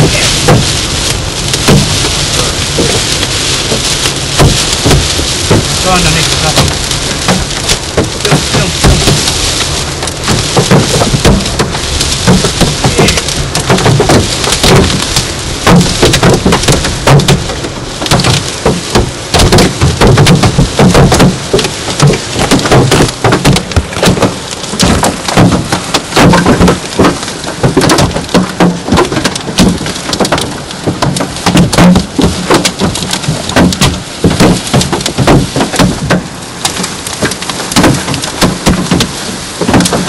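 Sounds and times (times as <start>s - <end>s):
hail clattering on car roof: 0.0s - 40.0s
heavy rain hiss: 0.0s - 40.0s.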